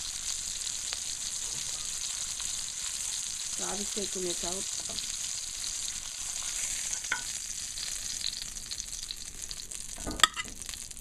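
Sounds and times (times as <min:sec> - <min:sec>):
burger patties sizzling in pan: 0:00.0 - 0:11.0.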